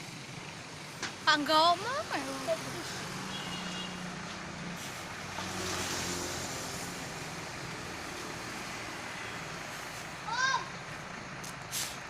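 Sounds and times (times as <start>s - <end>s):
passing vehicle engine hum: 0.0s - 12.0s
road rush: 0.0s - 12.0s.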